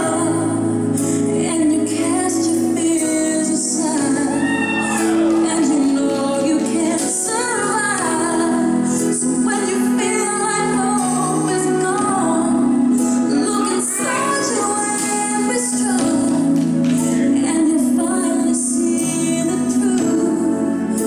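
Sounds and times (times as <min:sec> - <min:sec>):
woman singing: 0:00.0 - 0:21.0.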